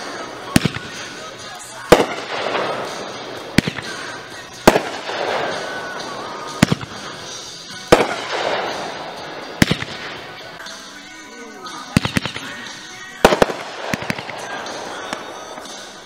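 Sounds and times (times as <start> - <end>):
firework shells bursting: 0.0 - 10.5, 11.9 - 16.0
firework crackle: 0.0 - 10.8, 11.8 - 16.0.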